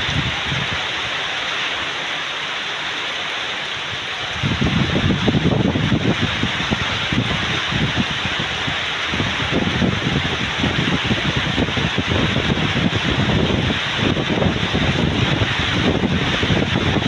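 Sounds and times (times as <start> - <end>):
wind gusts buffeting microphone: 0.0 - 2.0, 3.7 - 17.0
heavy rain pouring: 0.0 - 17.0.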